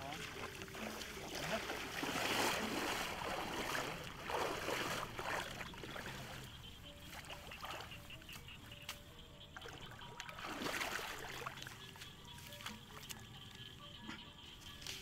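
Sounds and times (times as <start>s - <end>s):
floodwater sloshing while wading: 0.0s - 15.0s.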